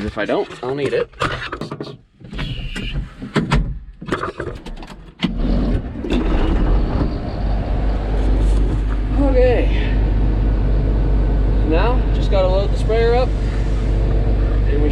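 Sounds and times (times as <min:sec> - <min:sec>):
vehicle engine rumbling: 0:02.2 - 0:14.9.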